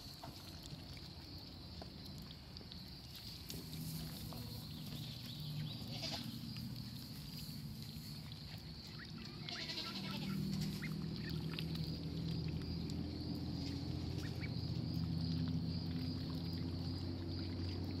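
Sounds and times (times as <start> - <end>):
ducklings peeping and quacking: 0.0 - 18.0.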